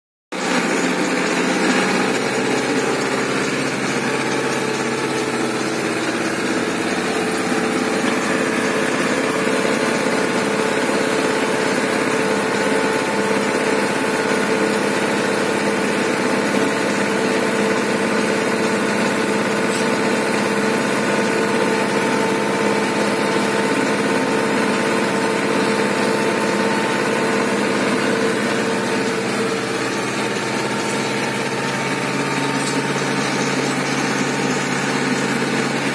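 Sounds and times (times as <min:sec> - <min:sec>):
tractor diesel engine droning: 0:00.3 - 0:35.9.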